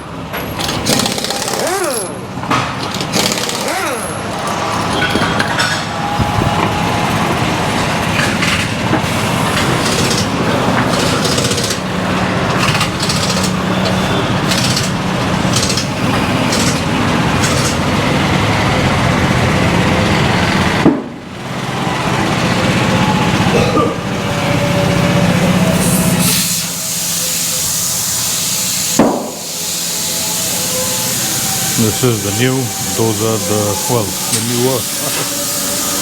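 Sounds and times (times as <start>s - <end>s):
machinery running: 0.0s - 36.0s.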